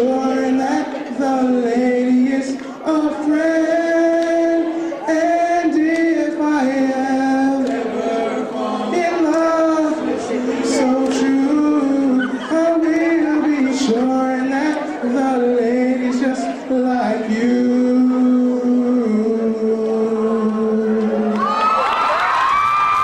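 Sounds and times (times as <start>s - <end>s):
male vocal group singing: 0.0s - 21.4s.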